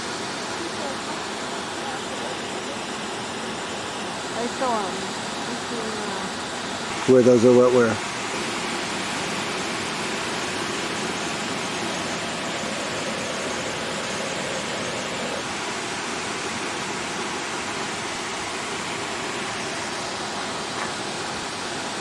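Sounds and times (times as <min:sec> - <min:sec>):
water cascading over rocks: 0:00.0 - 0:22.0.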